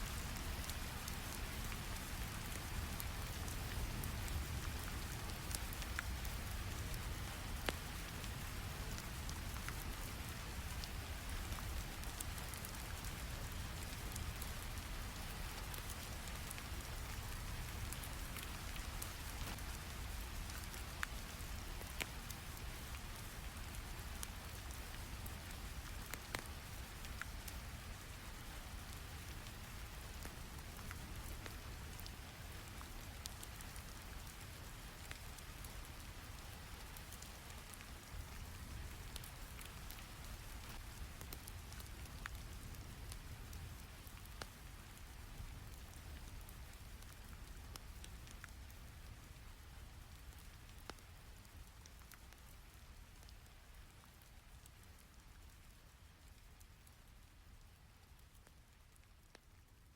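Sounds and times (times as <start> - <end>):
wood fire crackling: 0.0 - 59.8
steady rain: 0.0 - 59.9.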